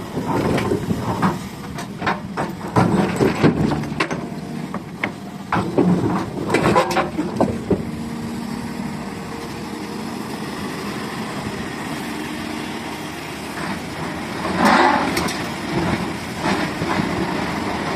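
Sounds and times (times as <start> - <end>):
excavator engine running: 0.0 - 17.9.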